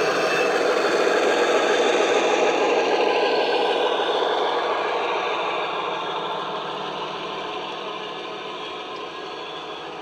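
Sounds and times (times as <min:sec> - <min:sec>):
model diesel engine sound: 0:00.0 - 0:10.0
model train rattling on track: 0:00.0 - 0:10.0.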